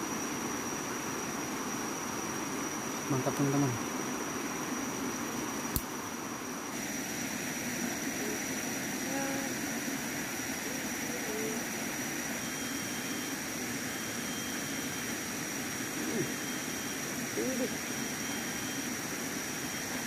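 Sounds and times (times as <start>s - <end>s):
even hiss: 0.0s - 20.0s
high-pitched insect drone: 0.0s - 20.0s.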